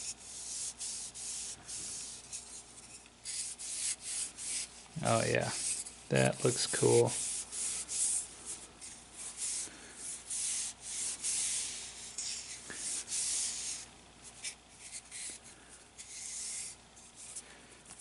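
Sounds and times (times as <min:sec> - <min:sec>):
cloth rubbing on wooden spoon: 0:00.0 - 0:15.4.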